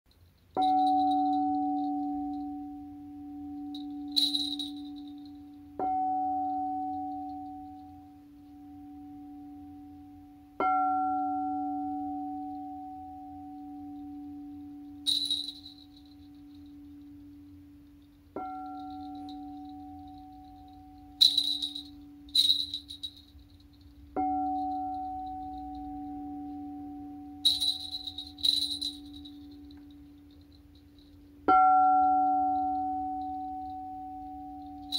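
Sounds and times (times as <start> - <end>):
small cymbal chimes: 0.2 - 34.9.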